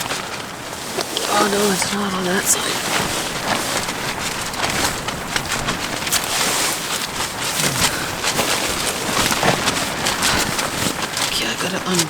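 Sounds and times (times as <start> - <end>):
tarp flapping in wind: 0.0 - 12.0.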